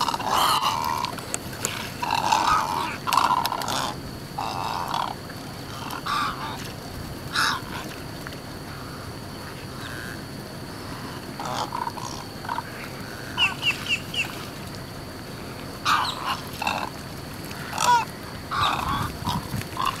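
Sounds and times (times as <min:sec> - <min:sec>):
wading birds grunting and croaking: 0:00.0 - 0:20.0.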